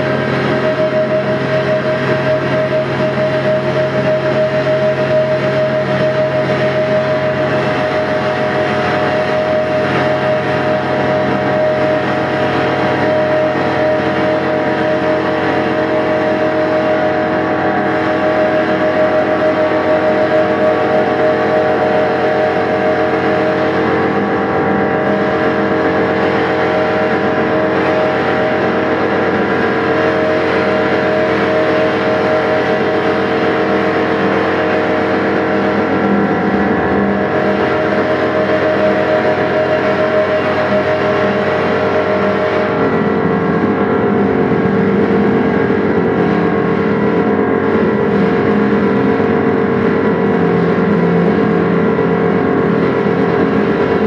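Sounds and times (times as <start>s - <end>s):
drone music sustained tones: 0.0s - 54.0s.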